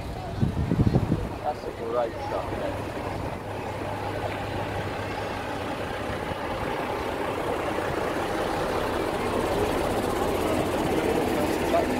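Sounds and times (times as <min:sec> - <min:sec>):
lorry diesel engine driving past: 0:00.0 - 0:11.9.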